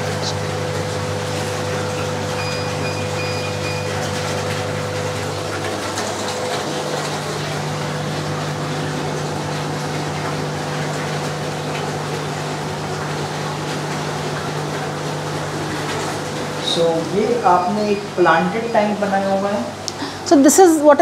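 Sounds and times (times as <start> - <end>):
pump hum: 0.0 - 21.0.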